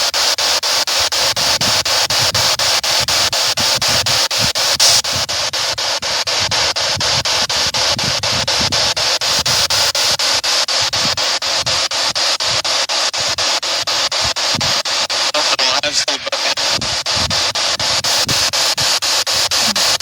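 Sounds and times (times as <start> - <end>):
pulsing radio static hiss: 0.0 - 20.0.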